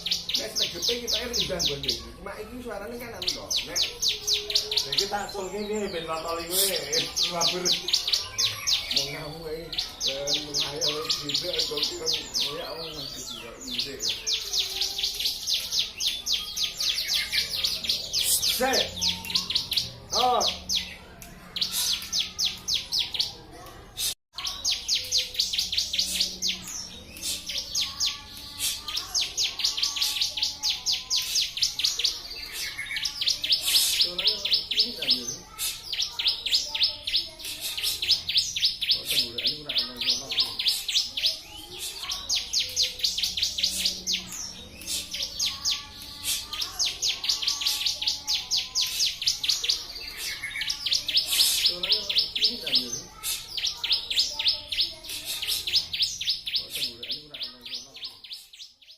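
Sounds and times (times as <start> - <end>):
songbird singing rapid high notes: 0.0 - 58.9.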